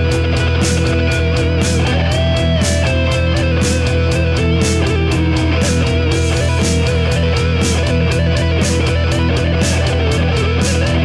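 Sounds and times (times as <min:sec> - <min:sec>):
driving drum beat: 0:00.0 - 0:11.0
electric guitar rock music: 0:00.0 - 0:11.0.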